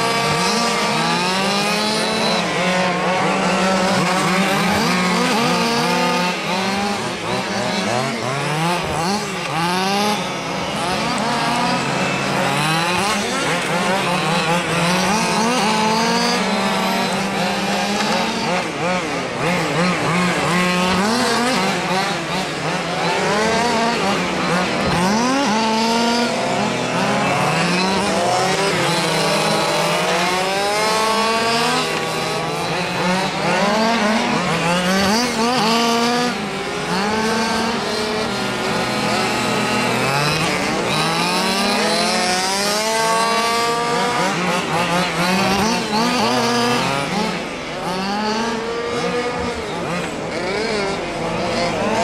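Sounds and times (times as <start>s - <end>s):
small two-stroke engines revving: 0.0s - 52.0s.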